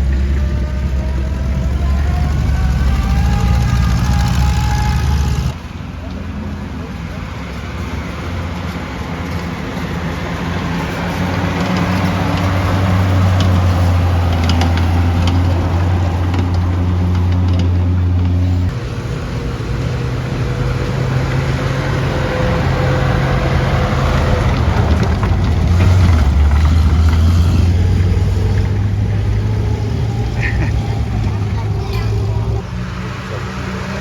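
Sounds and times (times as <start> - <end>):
large vehicle engine droning: 0.0 - 34.0.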